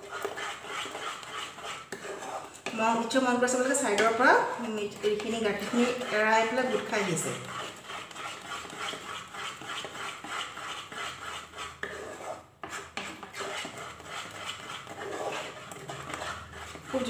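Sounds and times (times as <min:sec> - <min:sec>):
spatula scraping a pan: 0:00.0 - 0:17.0.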